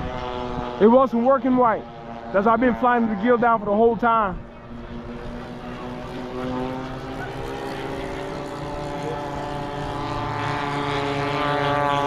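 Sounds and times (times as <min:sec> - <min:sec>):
model plane propeller drone: 0:00.0 - 0:12.0.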